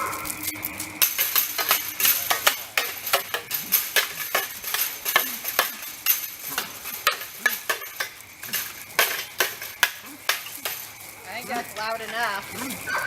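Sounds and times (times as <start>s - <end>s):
metal clanging: 0.0s - 13.0s.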